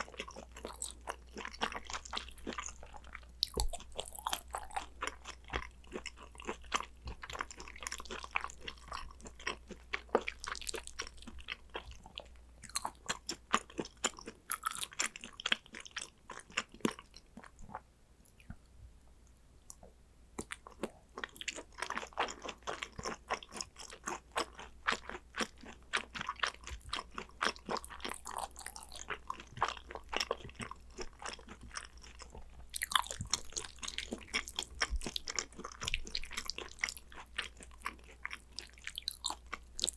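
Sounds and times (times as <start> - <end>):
wet chewing with crunches: 0.0 - 18.6, 19.7 - 39.9.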